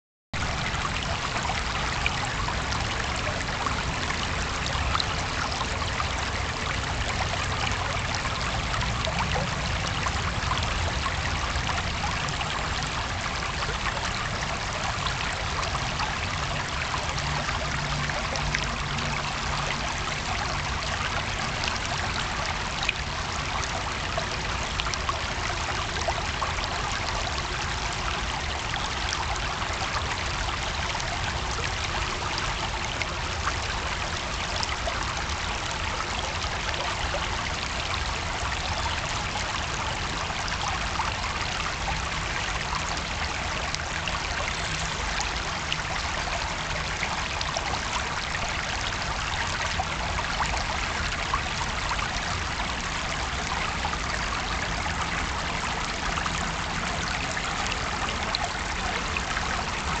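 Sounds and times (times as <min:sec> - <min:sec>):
brook babbling over pebbles: 0:00.4 - 1:00.0.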